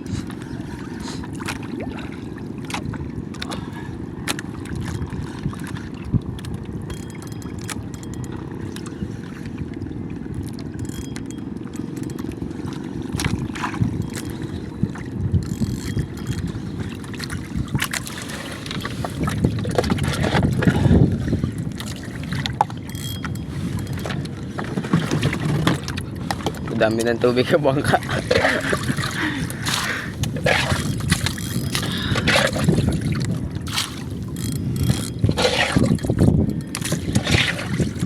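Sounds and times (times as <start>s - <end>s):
wind and water rushing: 0.0s - 38.0s.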